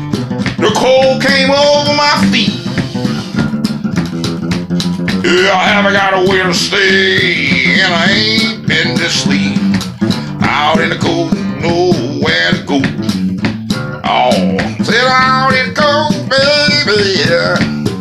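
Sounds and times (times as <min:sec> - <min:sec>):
acoustic blues guitar: 0:00.0 - 0:18.0
man singing: 0:00.6 - 0:03.4, 0:05.2 - 0:13.2, 0:14.0 - 0:18.0.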